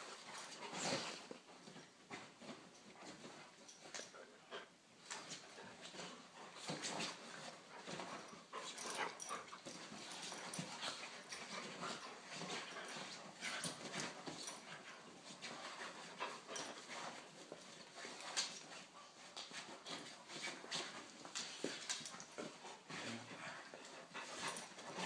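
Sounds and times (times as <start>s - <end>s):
dogs mouthing and scuffling: 0.0s - 25.0s.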